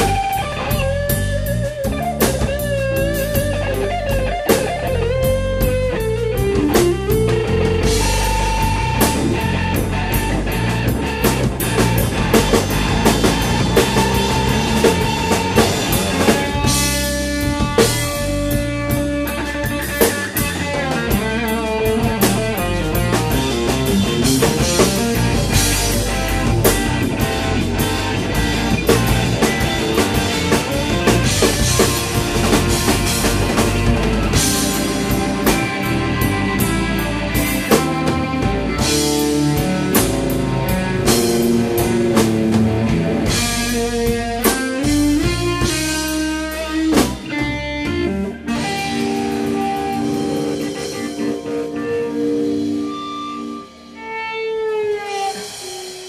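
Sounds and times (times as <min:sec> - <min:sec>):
bass guitar: 0:00.0 - 0:56.0
drum kit: 0:00.0 - 0:56.0
electric piano: 0:00.0 - 0:56.0
overdriven electric lead guitar: 0:00.0 - 0:56.0.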